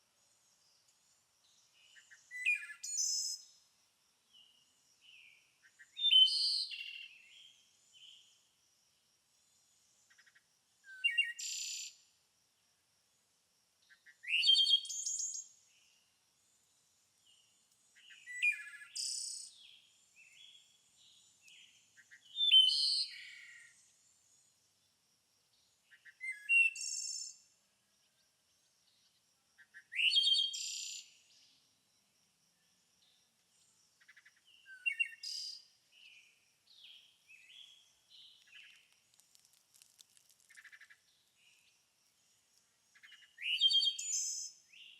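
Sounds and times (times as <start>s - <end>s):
songbird singing: 0.0s - 44.9s
soft bird chirps: 0.1s - 3.7s, 4.3s - 8.6s, 9.4s - 12.1s, 13.9s - 24.6s, 25.5s - 31.8s, 32.5s - 44.9s.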